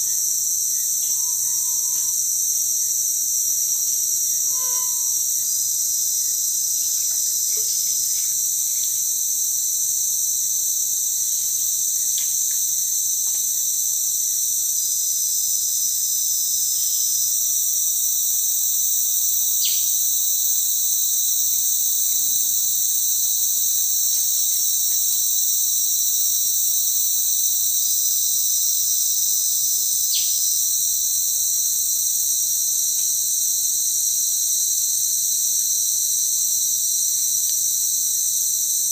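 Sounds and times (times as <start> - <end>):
insects ringing chorus: 0.0 - 38.9.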